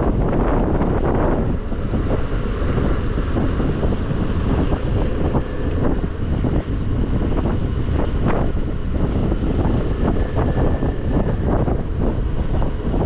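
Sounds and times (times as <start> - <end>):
scooter running: 0.0 - 13.0
wind buffeting microphone: 0.0 - 13.0.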